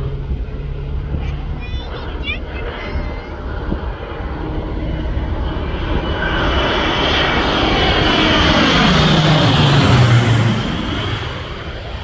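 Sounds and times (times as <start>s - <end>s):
low-flying propeller plane: 0.0s - 12.0s.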